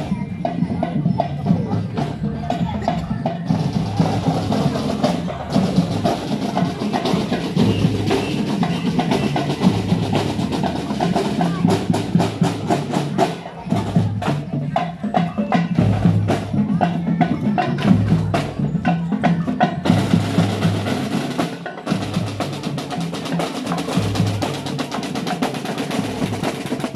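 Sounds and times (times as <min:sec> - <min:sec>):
marching band drums: 0:00.0 - 0:26.9.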